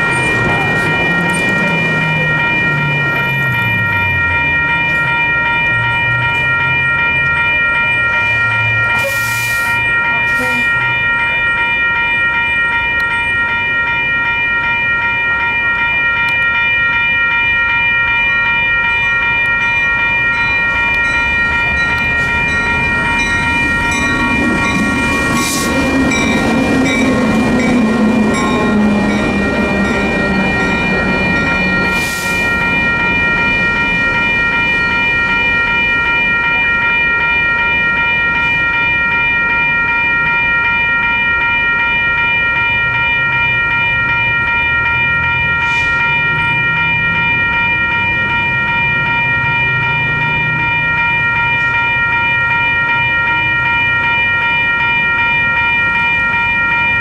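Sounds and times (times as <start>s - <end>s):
railroad crossing bell ringing: 0.0s - 57.0s.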